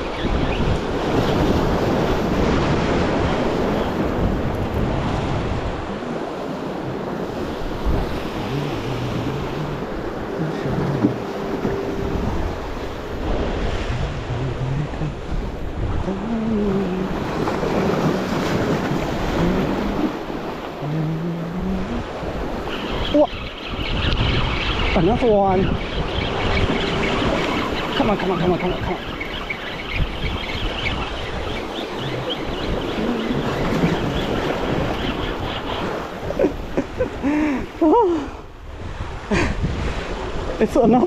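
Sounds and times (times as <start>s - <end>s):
ocean surf breaking over rocks: 0.0s - 41.0s
wind buffeting microphone: 0.0s - 41.0s.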